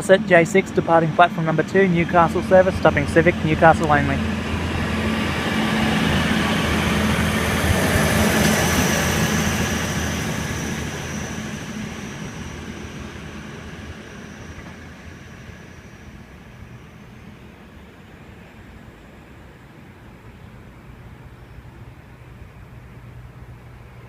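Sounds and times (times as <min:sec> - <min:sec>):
diesel railcar engine: 0:00.0 - 0:24.0.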